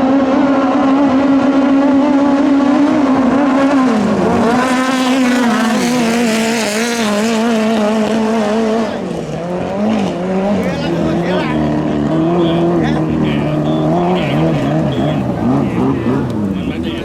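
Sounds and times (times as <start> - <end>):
racing boat engine at high revs: 0.0 - 17.0.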